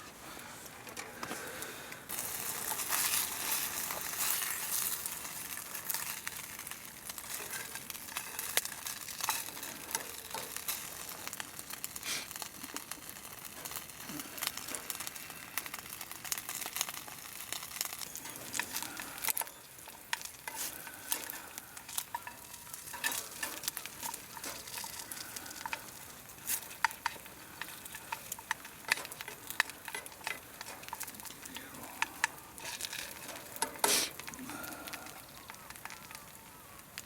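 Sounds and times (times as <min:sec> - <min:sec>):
food sizzling in a pan: 0:02.1 - 0:37.0.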